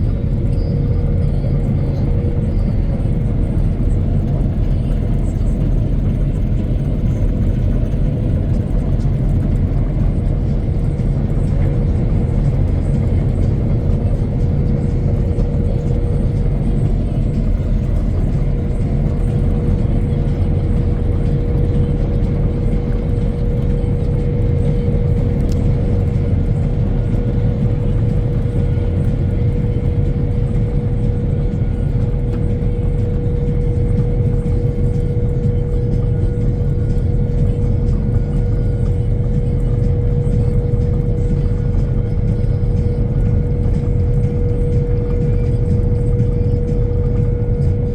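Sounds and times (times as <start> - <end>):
high whine: 0.0 - 47.9
mowing machine engine drone: 0.0 - 47.9.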